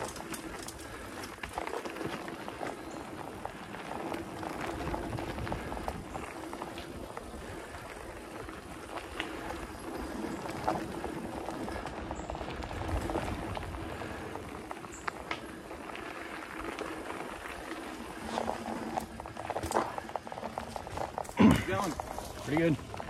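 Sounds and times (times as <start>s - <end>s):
bike rattling and knocking: 0.0s - 23.0s
bike tyre rumble on dirt: 0.0s - 23.0s.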